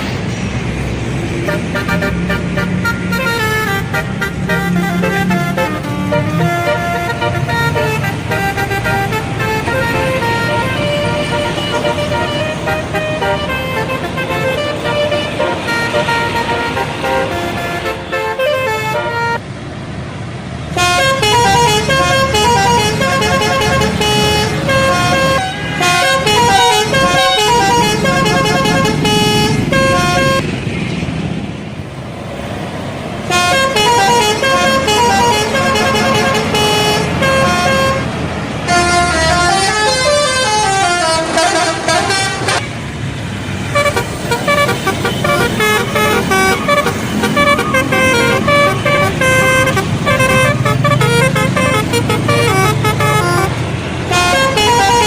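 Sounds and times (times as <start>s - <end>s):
bus engine running: 0.0s - 55.0s
bus horns playing melodies: 1.3s - 19.4s, 20.7s - 30.5s, 33.2s - 42.8s, 43.6s - 55.0s.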